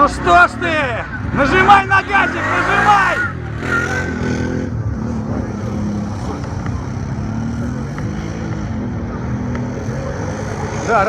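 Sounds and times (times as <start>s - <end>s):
quad bike engines racing: 0.0s - 11.0s.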